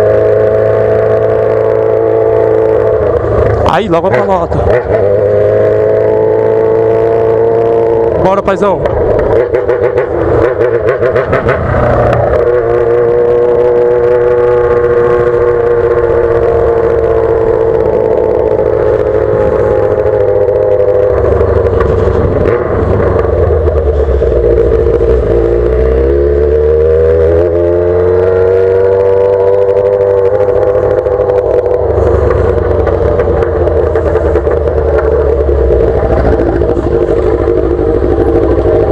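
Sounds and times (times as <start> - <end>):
exhaust crackling: 0.0 - 38.9
motorcycle engine revving: 0.0 - 38.9.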